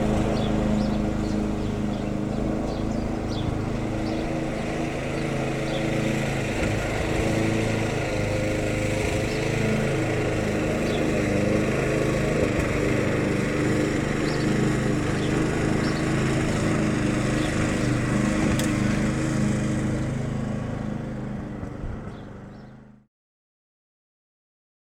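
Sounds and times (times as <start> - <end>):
machine motor humming: 0.0 - 22.7.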